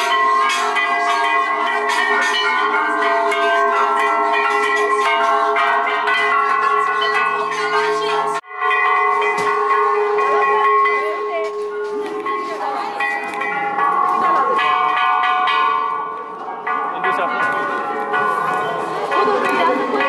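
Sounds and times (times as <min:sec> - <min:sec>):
metal bells ringing: 0:00.0 - 0:20.0.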